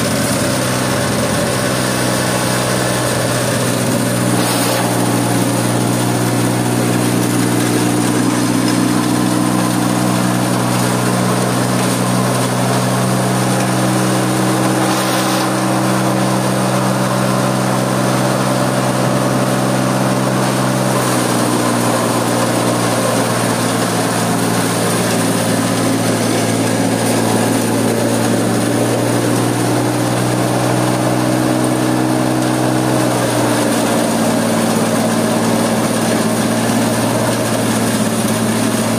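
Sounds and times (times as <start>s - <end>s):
stone crusher motor humming: 0.0s - 38.9s.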